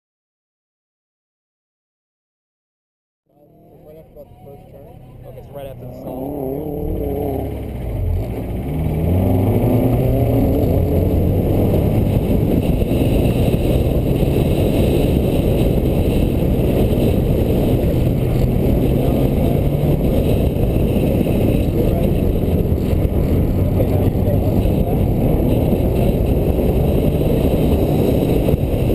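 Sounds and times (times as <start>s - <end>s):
car engine accelerating: 3.3s - 28.9s
wind and road noise: 3.3s - 28.9s.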